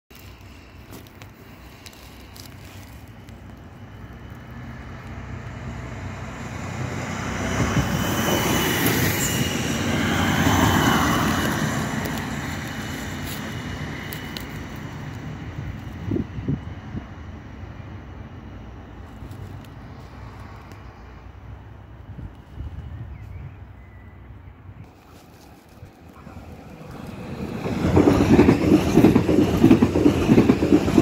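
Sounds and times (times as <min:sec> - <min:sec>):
diesel railcar passing: 0:00.1 - 0:31.0.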